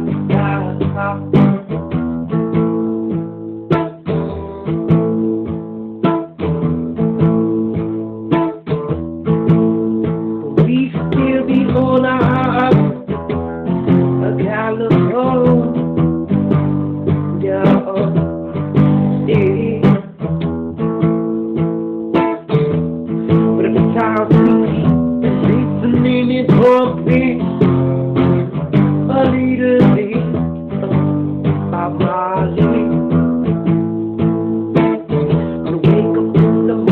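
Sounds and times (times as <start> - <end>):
acoustic guitar strumming: 0.0 - 36.9.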